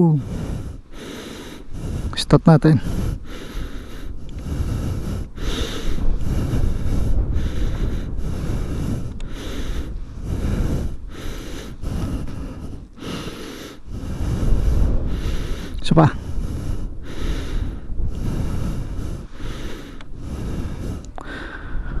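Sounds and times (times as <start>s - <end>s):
heavy rhythmic breathing: 0.0s - 22.0s.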